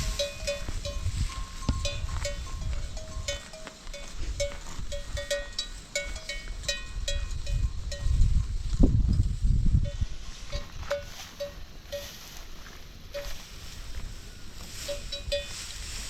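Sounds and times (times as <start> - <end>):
small bells clinking: 0.0 - 12.3, 13.1 - 13.4, 14.8 - 15.7.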